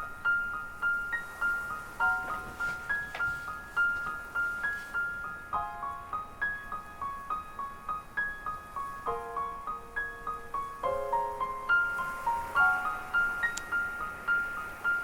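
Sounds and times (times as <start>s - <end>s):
gentle piano-like melody: 0.0s - 15.0s.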